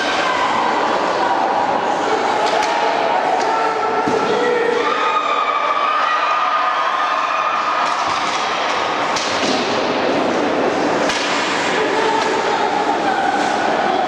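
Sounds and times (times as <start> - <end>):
ice hockey play: 0.0 - 14.0
spectators' voices: 0.0 - 14.0.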